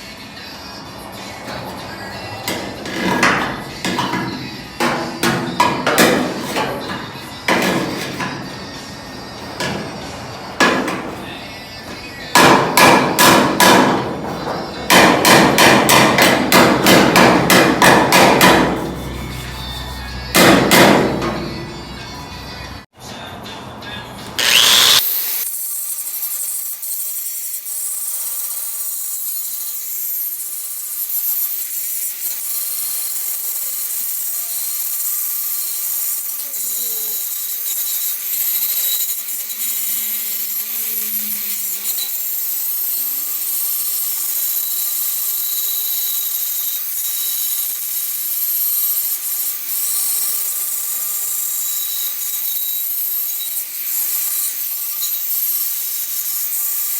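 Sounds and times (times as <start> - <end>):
grinder on sheet metal: 1.3 - 21.6, 24.4 - 56.9.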